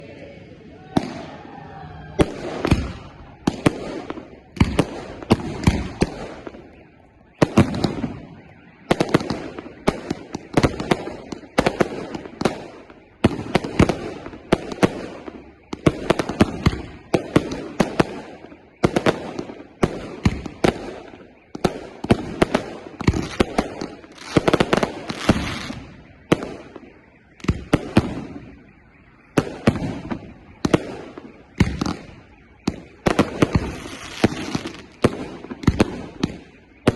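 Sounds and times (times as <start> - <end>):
firework bursts with echo: 0.4 - 36.9.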